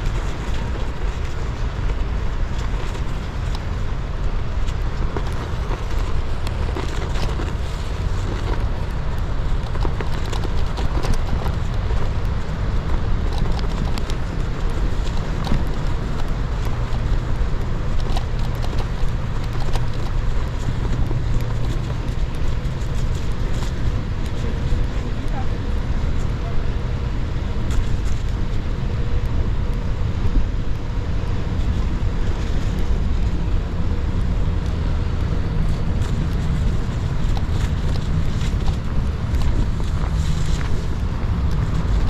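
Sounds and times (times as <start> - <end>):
bike tyres crunching on snow: 0.0 - 42.0
wind rumble: 0.0 - 42.0.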